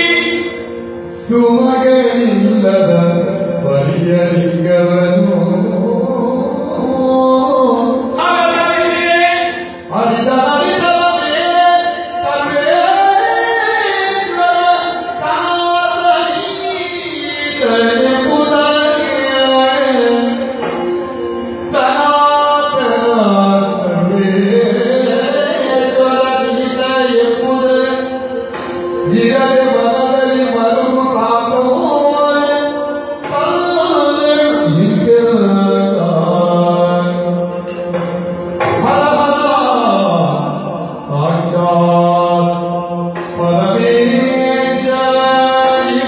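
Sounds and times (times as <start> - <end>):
man singing melodic line: 0.0 - 46.0.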